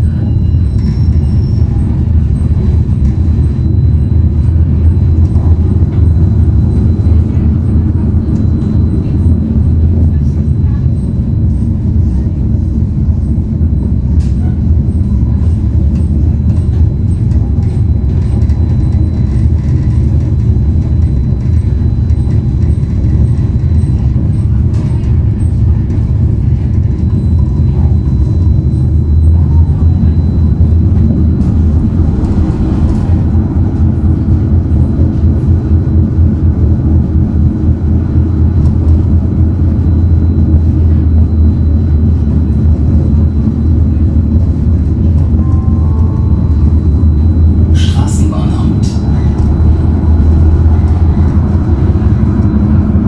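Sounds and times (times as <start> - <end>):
tram rumbling along track: 0.0 - 53.0.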